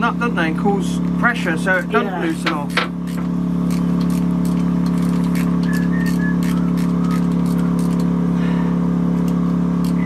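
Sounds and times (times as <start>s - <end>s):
engine-like drone: 0.0s - 10.0s.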